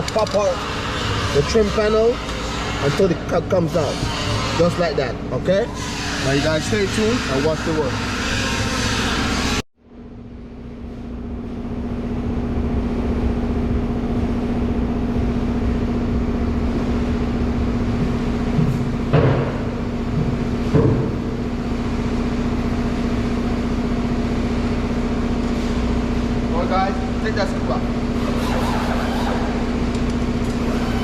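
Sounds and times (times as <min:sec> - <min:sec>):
machine hum with low rumble: 0:00.0 - 0:31.0.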